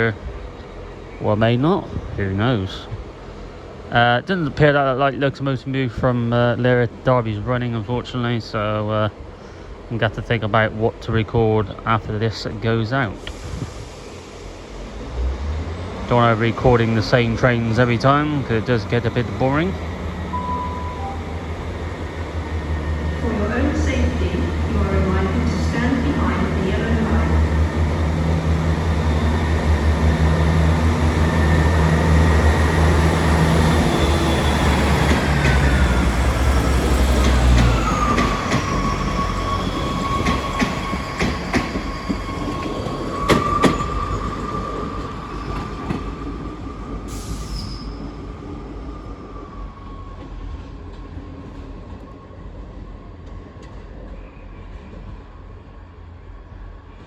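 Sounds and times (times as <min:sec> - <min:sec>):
train diesel engine: 0:00.0 - 0:57.0
train whine: 0:00.0 - 0:57.0.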